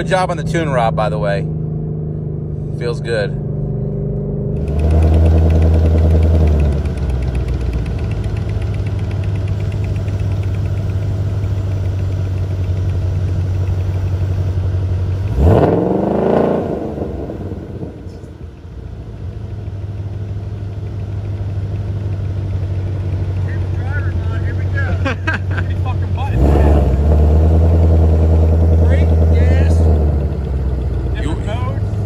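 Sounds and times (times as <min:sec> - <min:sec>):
car engine idling: 0:00.0 - 0:32.0
engine revving: 0:00.0 - 0:32.0.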